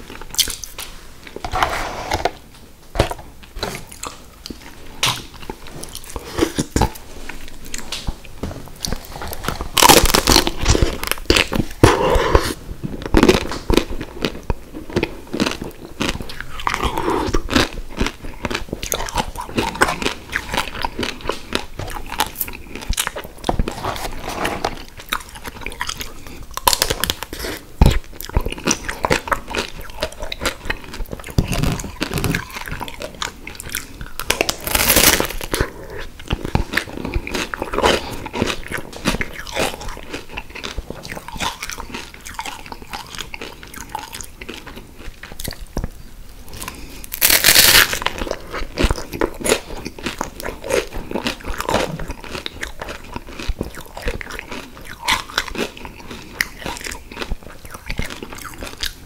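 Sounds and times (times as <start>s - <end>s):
wet mouth sounds: 3.6s - 59.0s
chocolate shell crunching: 8.9s - 45.7s, 46.6s - 59.0s.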